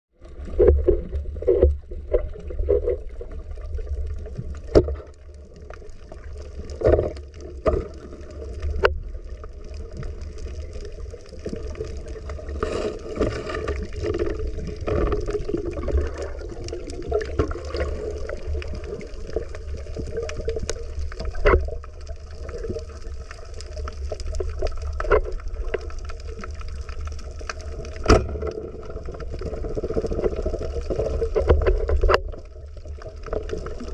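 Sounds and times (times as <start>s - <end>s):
underwater rumble: 0.1s - 33.9s
underwater clicks and knocks: 0.2s - 33.9s.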